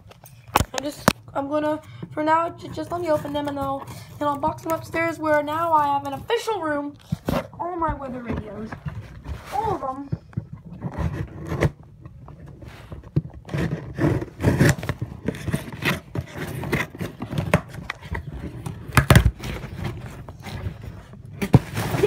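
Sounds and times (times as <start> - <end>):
objects scraping and rubbing: 0.0 - 22.0.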